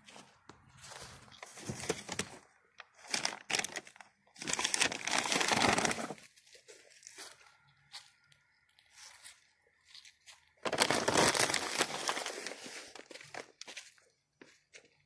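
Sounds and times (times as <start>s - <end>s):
footsteps crunching dry leaves: 0.0s - 2.4s, 3.0s - 14.8s.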